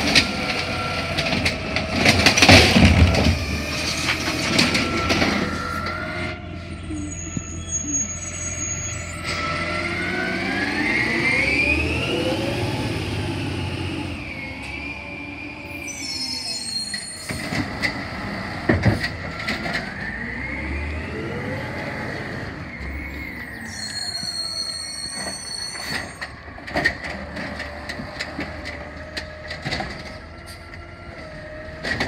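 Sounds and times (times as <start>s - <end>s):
garbage truck engine whining: 0.0s - 32.0s.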